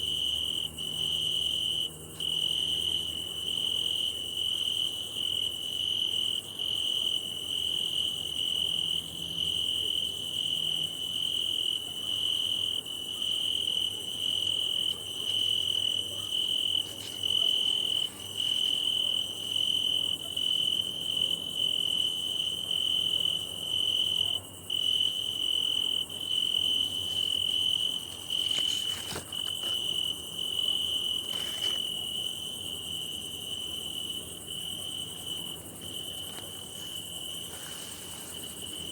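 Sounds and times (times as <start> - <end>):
cricket trilling: 0.0 - 38.9.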